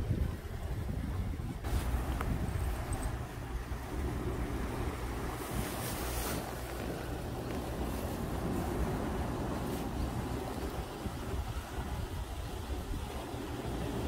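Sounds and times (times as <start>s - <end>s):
sea waves washing against rocks: 0.0s - 14.0s
wind buffeting microphone: 0.0s - 14.0s.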